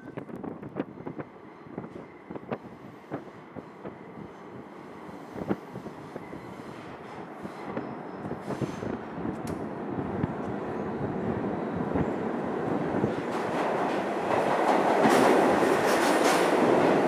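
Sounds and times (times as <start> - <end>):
subway train rumble in tunnel: 0.0 - 17.0.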